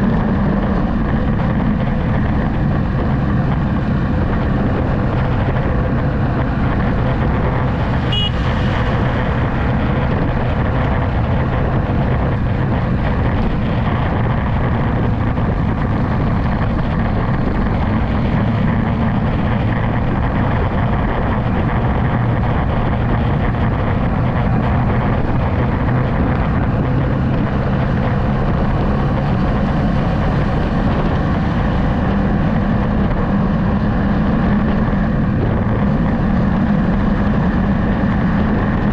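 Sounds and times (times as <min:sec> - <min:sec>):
road noise: 0:00.0 - 0:38.9
vehicle engine running: 0:00.0 - 0:38.9
wind noise over microphone: 0:00.0 - 0:38.9.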